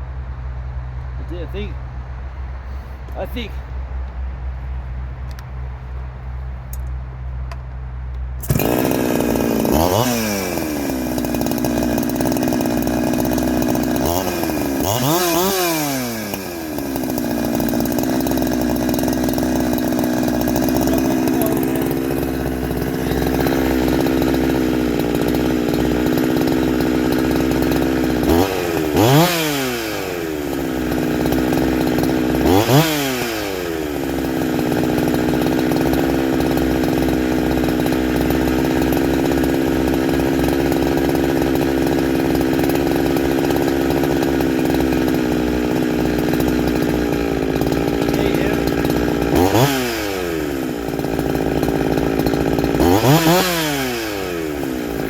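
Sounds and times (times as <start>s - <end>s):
chainsaw idling and revving: 1.0s - 1.9s, 2.6s - 3.7s, 6.4s - 55.0s.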